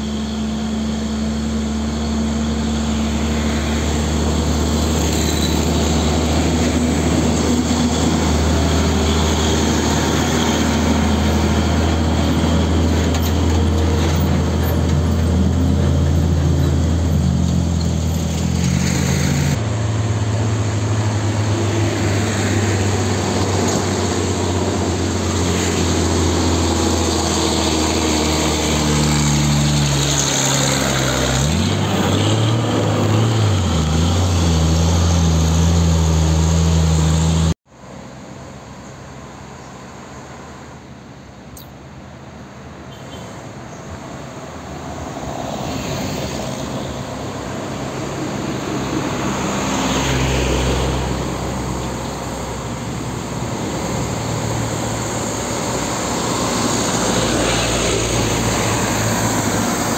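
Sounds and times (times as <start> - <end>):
diesel truck engines droning: 0.0 - 59.9.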